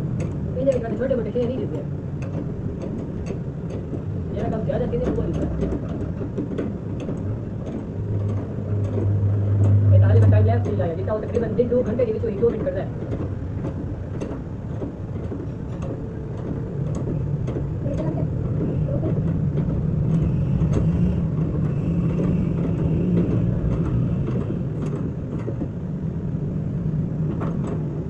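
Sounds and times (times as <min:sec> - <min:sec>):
engine rumbling: 0:00.0 - 0:28.0
sharp metallic clicks and taps: 0:00.2 - 0:00.9, 0:02.2 - 0:11.5, 0:12.4 - 0:25.7.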